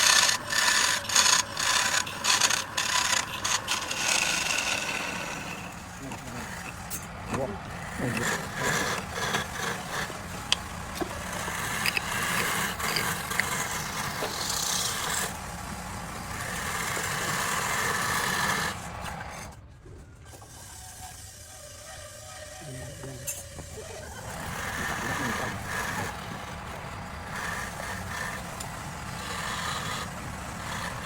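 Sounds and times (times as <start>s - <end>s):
lathe tool rasping on wood: 0.0s - 19.5s, 20.6s - 31.0s.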